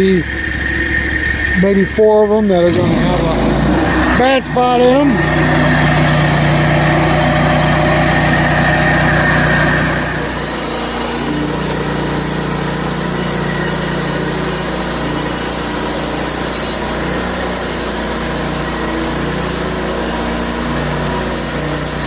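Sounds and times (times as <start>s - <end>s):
gasoline engine running under load: 0.0s - 22.0s
saw blade cutting wood: 0.0s - 22.0s.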